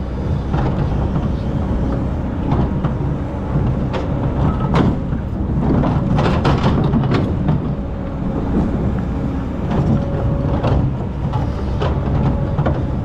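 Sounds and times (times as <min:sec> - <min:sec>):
excavator diesel engine running: 0:00.0 - 0:13.0
excavator digging sand: 0:00.0 - 0:13.0.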